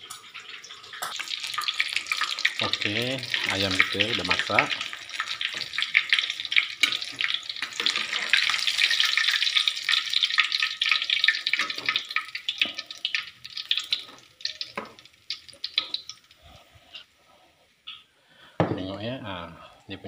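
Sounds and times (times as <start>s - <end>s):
hot oil sizzling and crackling: 0.0s - 18.1s.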